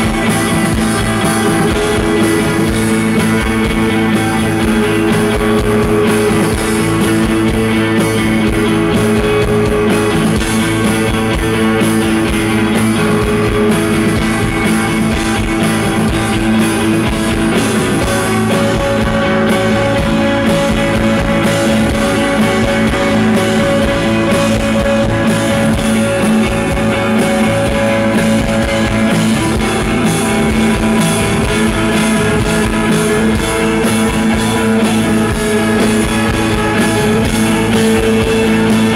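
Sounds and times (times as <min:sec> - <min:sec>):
bass guitar: 0:00.0 - 0:38.9
drum kit: 0:00.0 - 0:38.9
electric guitars: 0:00.0 - 0:38.9
keyboards: 0:00.0 - 0:38.9.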